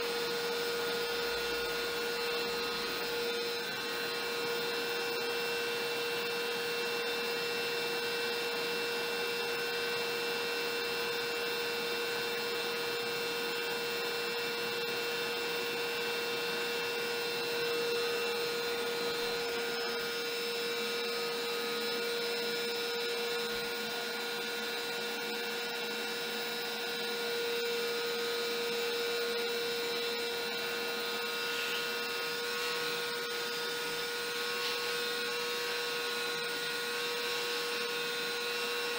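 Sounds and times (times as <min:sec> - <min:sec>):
shop vacuum running: 0:00.0 - 0:38.9.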